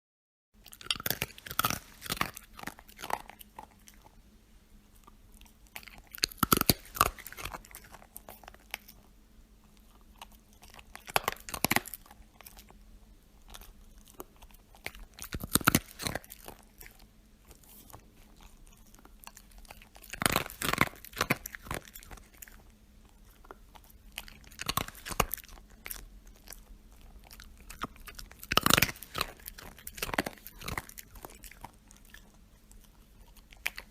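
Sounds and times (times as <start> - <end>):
dog crunching treats: 0.6 - 4.2, 4.9 - 12.8, 13.4 - 33.9.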